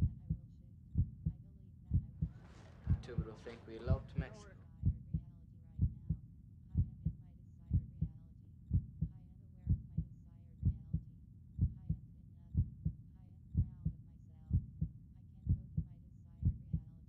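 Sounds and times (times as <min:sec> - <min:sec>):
heartbeat: 0:00.0 - 0:06.2, 0:06.8 - 0:16.9.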